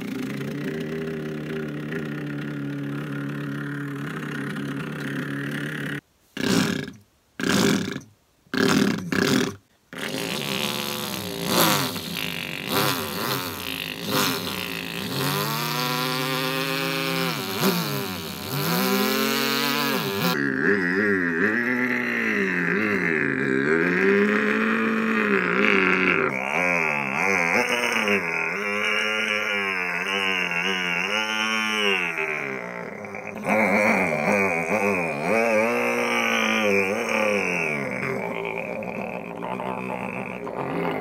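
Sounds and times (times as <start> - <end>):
person imitating small engine: 0.0 - 41.0.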